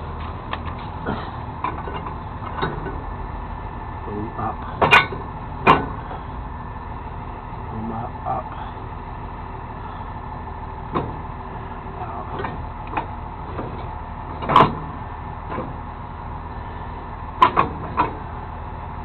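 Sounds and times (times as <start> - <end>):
tow truck engine running: 0.0 - 19.0.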